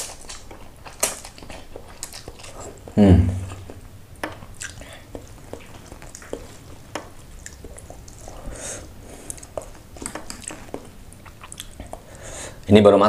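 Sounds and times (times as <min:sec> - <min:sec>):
chewing and wet mouth noises: 0:00.0 - 0:12.6.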